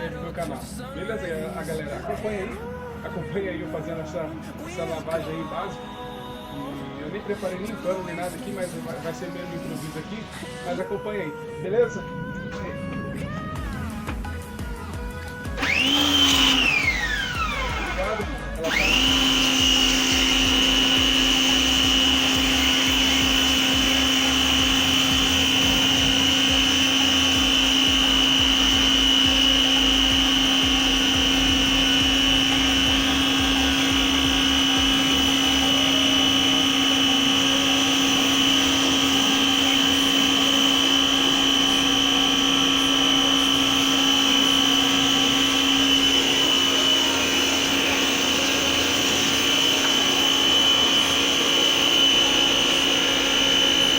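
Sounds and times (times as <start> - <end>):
pressure washer motor whining: 0.0 - 53.9.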